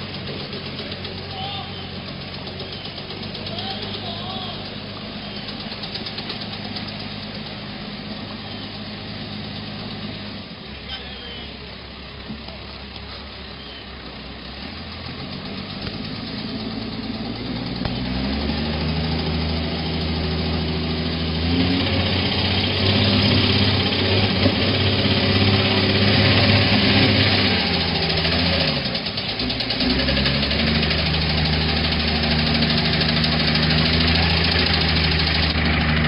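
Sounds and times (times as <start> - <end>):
truck engine revving: 0.0 - 10.9, 11.5 - 36.0.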